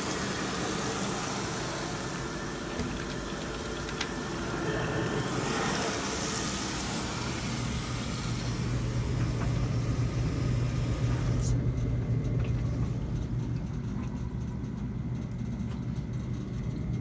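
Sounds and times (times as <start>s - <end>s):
steady low hum: 0.0s - 17.0s
water running into washing machine: 0.0s - 17.0s.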